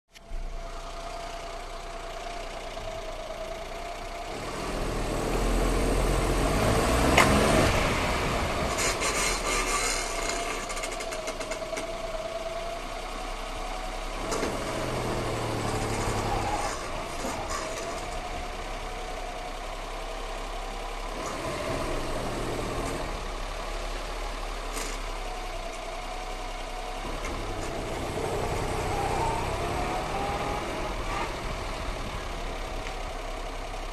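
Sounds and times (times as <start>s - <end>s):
brakes wavering tone: 0.1s - 33.9s
car engine running: 0.2s - 33.9s.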